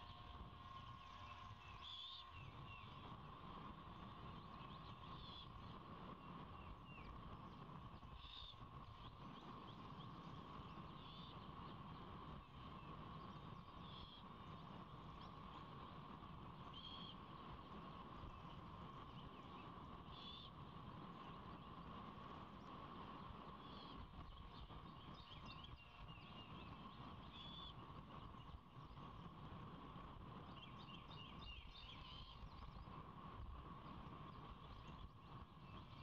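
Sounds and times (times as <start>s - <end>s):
distant birdsong: 0.0s - 36.0s.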